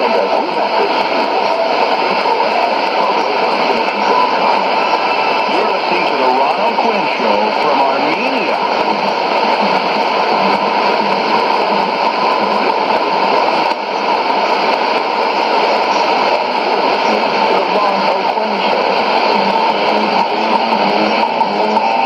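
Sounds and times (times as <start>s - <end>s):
radio static and hiss: 0.0s - 22.0s
weak radio broadcast audio: 0.0s - 22.0s.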